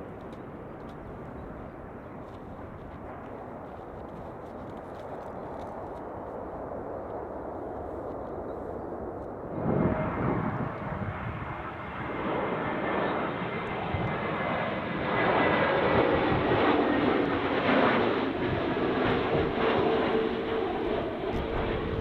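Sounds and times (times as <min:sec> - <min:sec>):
airliner engine noise: 0:00.0 - 0:22.0.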